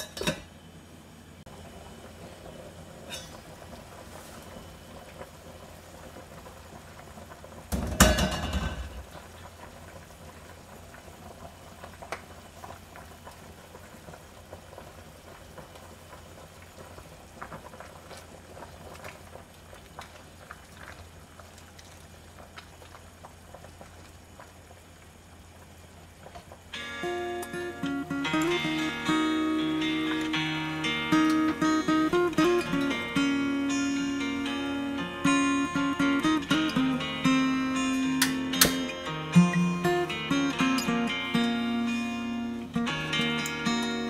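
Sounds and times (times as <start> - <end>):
soup bubbling in a pot: 1.4 - 37.6.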